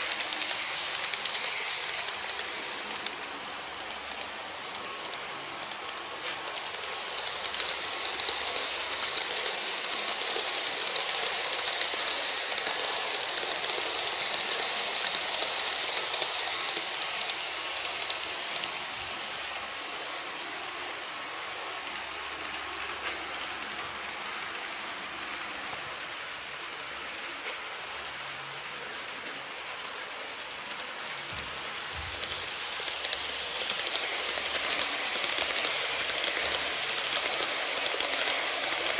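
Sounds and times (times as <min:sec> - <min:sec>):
model train wheels rattling: 0:00.0 - 0:25.7, 0:28.6 - 0:38.9.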